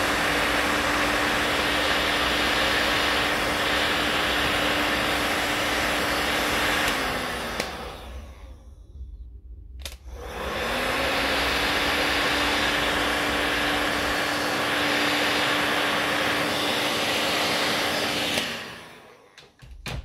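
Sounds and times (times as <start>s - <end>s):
heat gun fan blowing hum: 0.0s - 8.7s, 9.8s - 19.4s.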